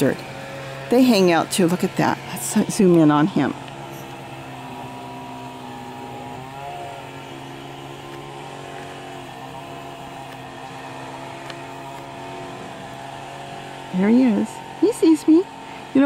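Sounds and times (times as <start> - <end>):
small engine droning: 0.0 - 16.0.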